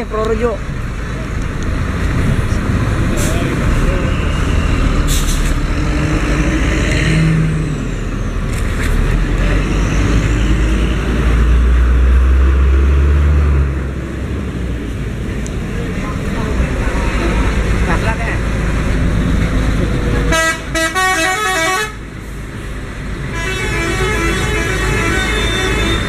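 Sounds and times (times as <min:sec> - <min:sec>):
buses driving past: 0:00.0 - 0:26.0.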